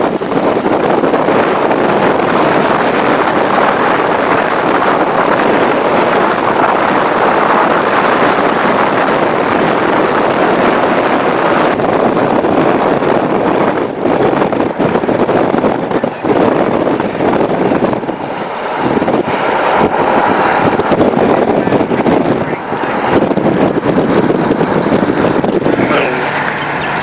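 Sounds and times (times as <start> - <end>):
road noise: 0.0 - 27.0
wind buffeting microphone: 0.0 - 27.0
wind rushing through car window: 0.0 - 27.0.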